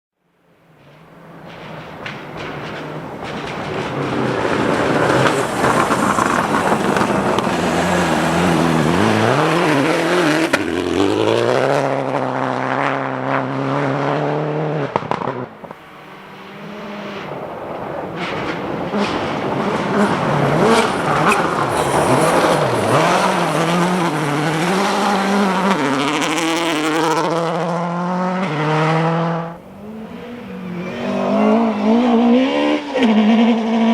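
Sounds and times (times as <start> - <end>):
rally car engine at full throttle: 0.8 - 33.9.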